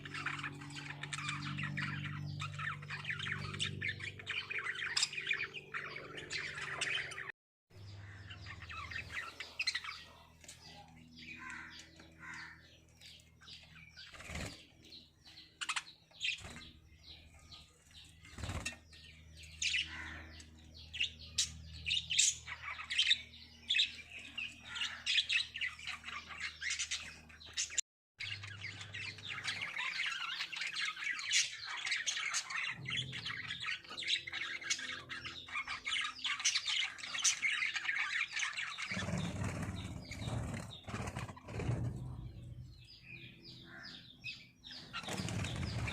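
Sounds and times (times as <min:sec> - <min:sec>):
lovebirds chirping and squawking: 0:00.0 - 0:45.9.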